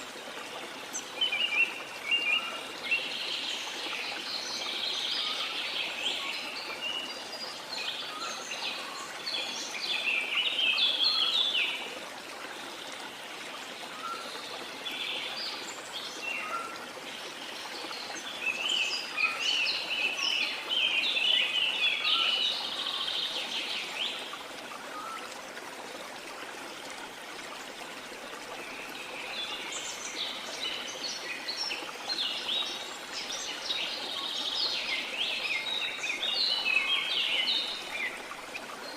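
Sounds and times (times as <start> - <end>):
rush of sea water: 0.0 - 38.9.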